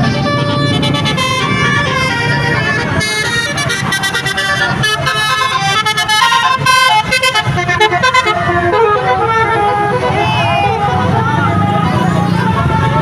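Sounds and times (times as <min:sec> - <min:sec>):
multi-tone bus air horn melody: 0:00.0 - 0:13.0.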